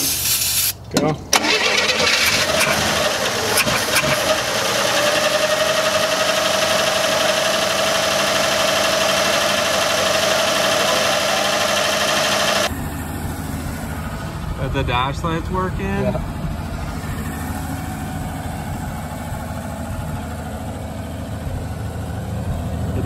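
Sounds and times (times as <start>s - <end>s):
car engine running: 1.0s - 23.0s.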